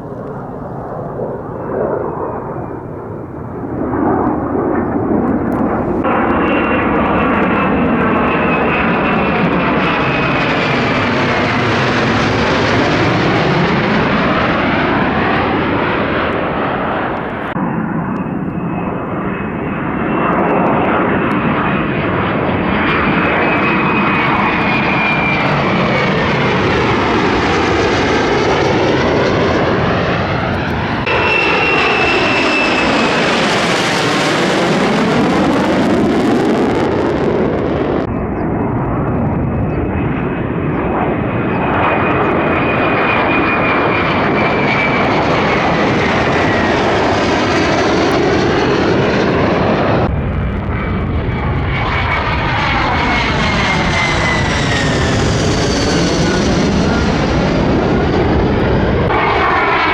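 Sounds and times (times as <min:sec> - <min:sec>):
jet engine passing overhead: 0:00.0 - 0:59.9.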